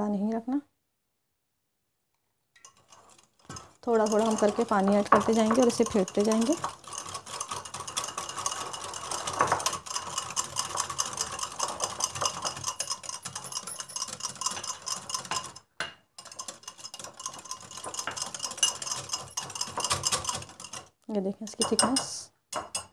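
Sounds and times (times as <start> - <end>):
whisk clicking against glass bowl: 2.6 - 15.6, 16.2 - 20.9, 21.5 - 22.9.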